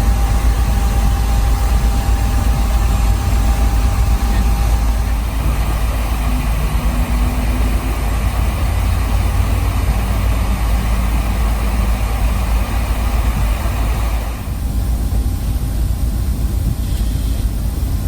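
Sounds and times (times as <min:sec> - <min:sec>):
airliner cabin rumble and hiss: 0:00.0 - 0:18.0.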